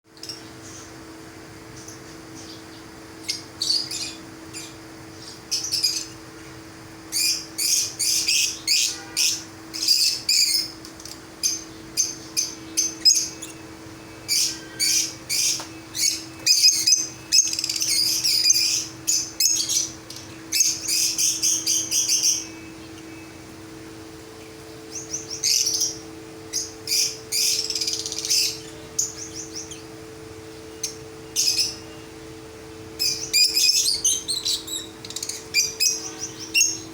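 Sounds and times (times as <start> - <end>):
birds chirping and tweeting: 0.1 - 36.9
steady low hum: 0.1 - 36.9.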